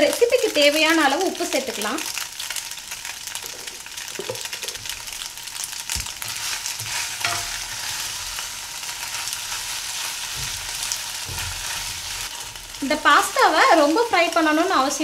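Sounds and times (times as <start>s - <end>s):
pasta and vegetables sizzling in oil: 0.0s - 15.0s.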